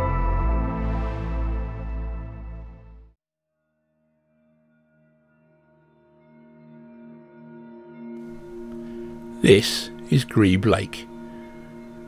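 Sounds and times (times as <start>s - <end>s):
ambient music of layered tones: 0.0s - 3.2s, 3.8s - 12.0s.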